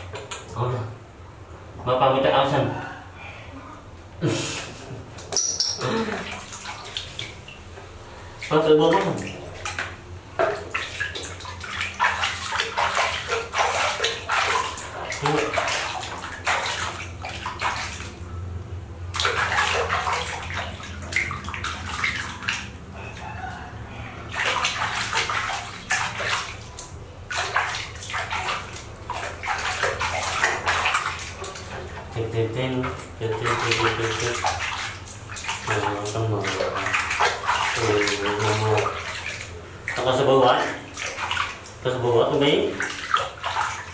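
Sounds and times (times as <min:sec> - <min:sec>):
water splashing in plastic basin: 0:00.0 - 0:00.7, 0:05.2 - 0:18.2, 0:19.0 - 0:43.9.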